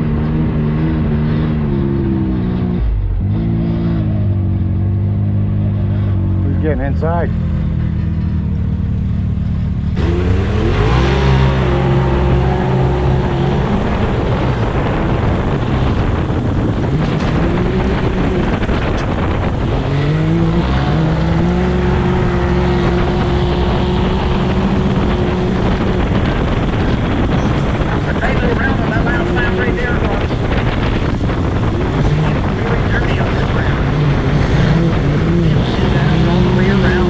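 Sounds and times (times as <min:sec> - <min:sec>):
engine revving at full throttle: 0:00.0 - 0:07.8, 0:09.7 - 0:37.0.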